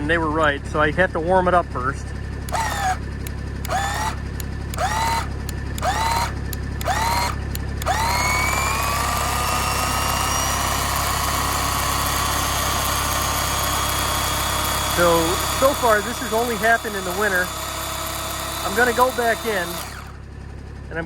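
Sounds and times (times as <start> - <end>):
electric chainsaw motor whine: 2.4 - 20.4.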